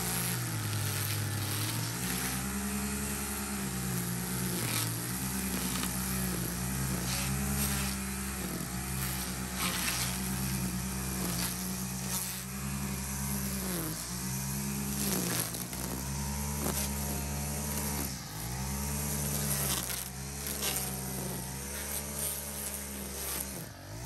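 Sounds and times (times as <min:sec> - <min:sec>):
string trimmer cutting grass: 0:00.0 - 0:24.0.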